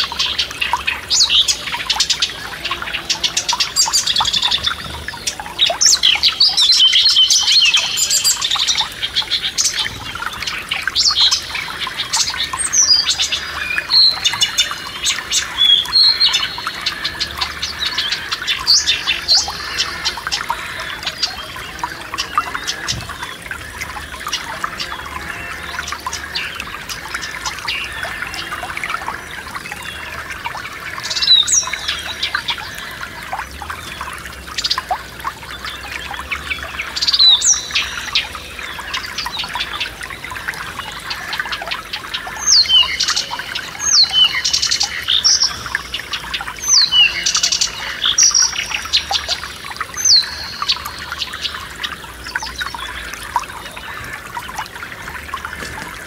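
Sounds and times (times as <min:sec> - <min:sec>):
forest stream babbling: 0:00.0 - 0:56.0
songbirds singing: 0:00.0 - 0:56.0.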